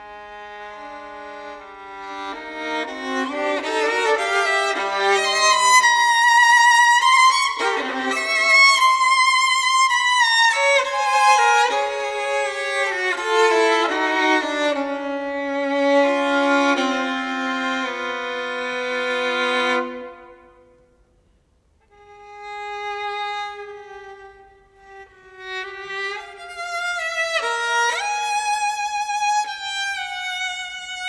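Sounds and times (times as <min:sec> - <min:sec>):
violin playing slow melody: 0:00.0 - 0:20.6, 0:21.9 - 0:31.0.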